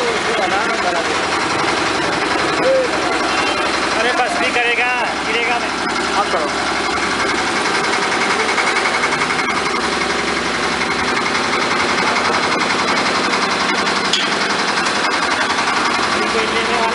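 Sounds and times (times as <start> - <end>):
mixer engine pulsing: 0.0 - 16.9.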